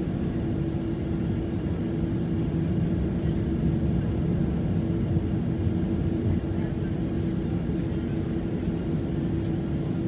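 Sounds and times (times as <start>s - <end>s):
jet engine cabin drone: 0.0s - 10.0s.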